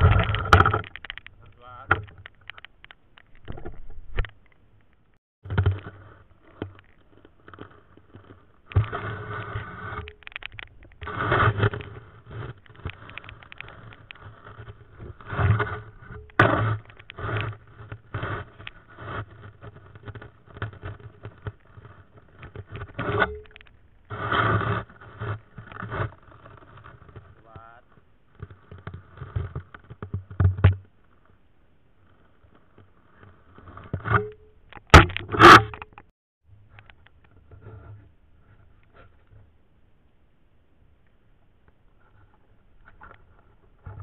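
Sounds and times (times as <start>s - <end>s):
muffled underwater bumps and scrapes: 0.0s - 40.2s, 41.1s - 44.0s.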